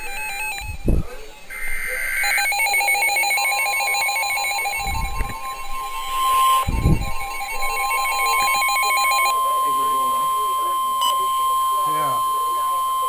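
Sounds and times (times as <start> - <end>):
steady high alert tone: 0.0 - 13.0
warbling digital data tones: 0.0 - 13.0.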